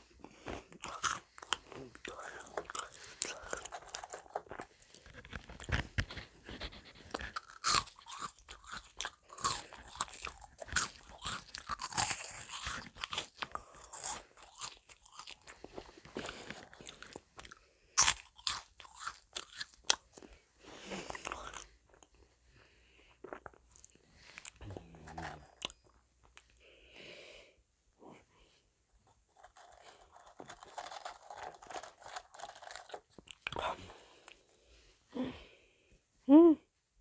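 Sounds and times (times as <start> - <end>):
cookies crunching when chewed: 0.0 - 26.6, 29.1 - 34.6.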